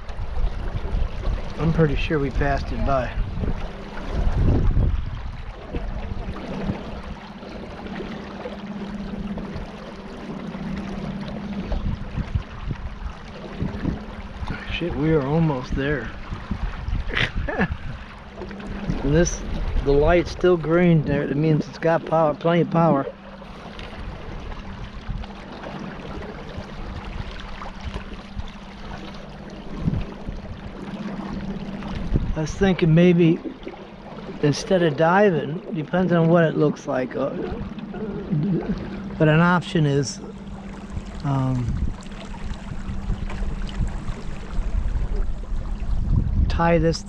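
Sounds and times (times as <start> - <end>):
boat motor humming: 0.0 - 47.0
water rushing past hull: 0.0 - 47.0.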